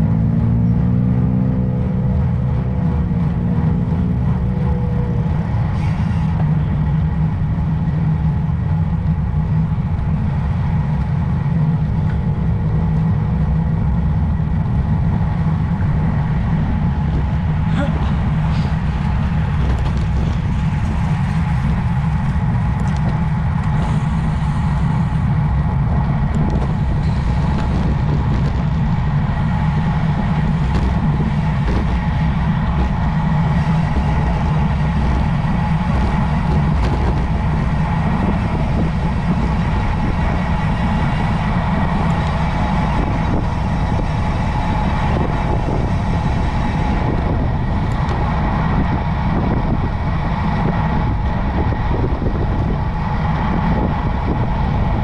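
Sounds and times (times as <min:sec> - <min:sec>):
road rumble: 0:00.0 - 0:55.0
wind rush: 0:00.0 - 0:55.0.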